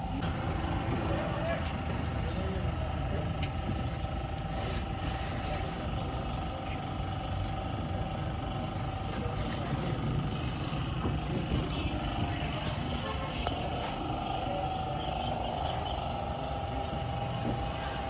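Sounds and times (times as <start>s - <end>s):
car engine running: 0.0s - 18.0s
thin engine whine: 0.0s - 18.0s.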